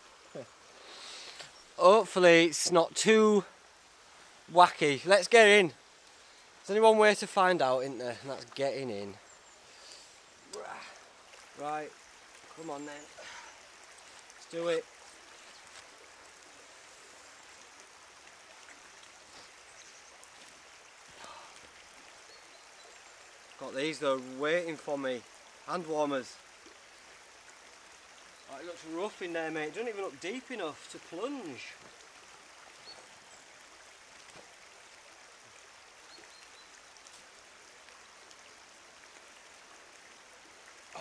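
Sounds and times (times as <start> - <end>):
running stream water: 0.0 - 41.0.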